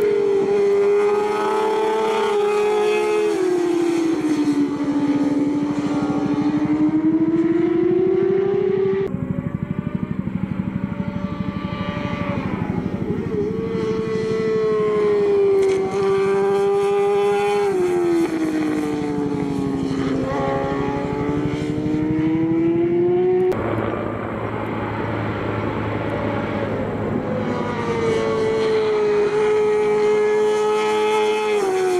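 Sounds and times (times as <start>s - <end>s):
racing motorcycle engines revving: 0.0s - 31.9s.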